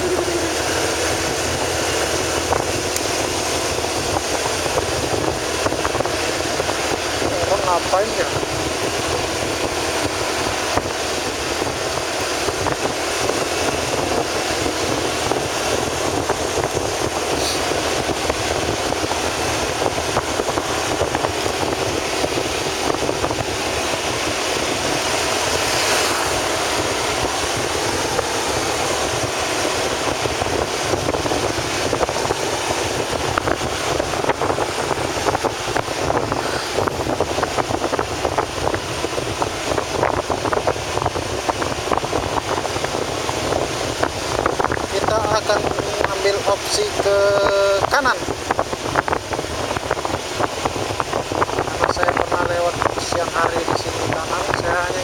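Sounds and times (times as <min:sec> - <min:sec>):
vehicle and road noise: 0:00.0 - 0:55.0
wind on microphone: 0:00.0 - 0:55.0.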